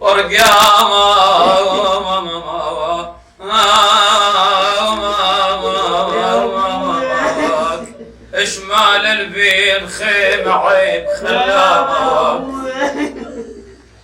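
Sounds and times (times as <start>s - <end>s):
man chanting a lament: 0.0s - 13.4s.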